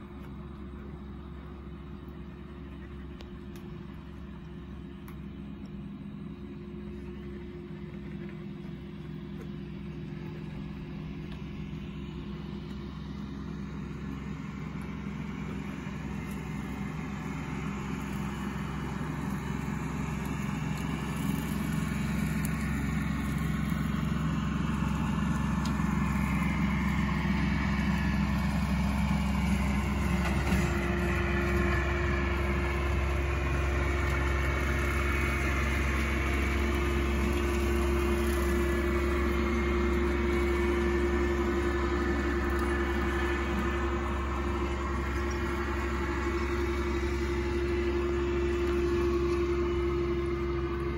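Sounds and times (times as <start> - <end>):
steady hum: 0.0 - 50.9
tractor engine droning: 0.0 - 50.9.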